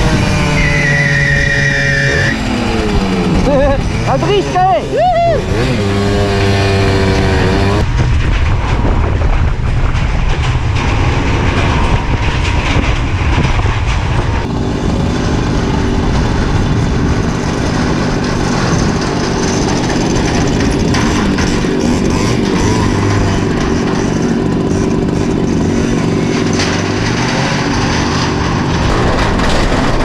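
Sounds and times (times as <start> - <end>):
two-stroke moped engine running: 0.0 - 30.0
freight train rumbling and clattering: 2.2 - 30.0.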